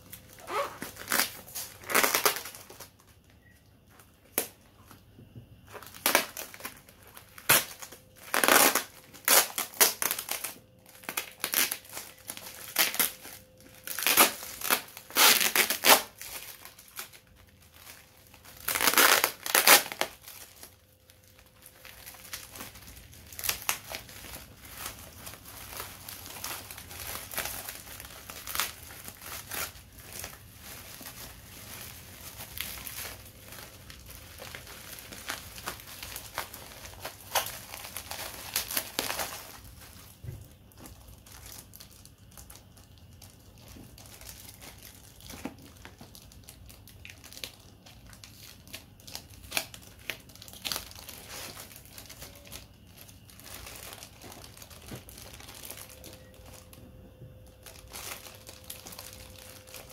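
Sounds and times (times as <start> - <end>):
packaging rustling and crinkling: 0.0 - 59.9.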